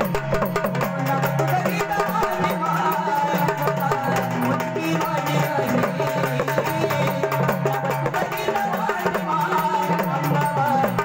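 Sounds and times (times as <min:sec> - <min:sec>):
fast steady drumming: 0:00.0 - 0:11.0.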